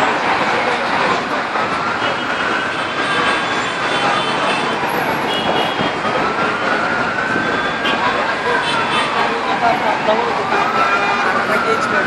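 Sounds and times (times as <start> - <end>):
emergency siren wailing: 0.0 - 12.0
street traffic noise: 0.0 - 12.0.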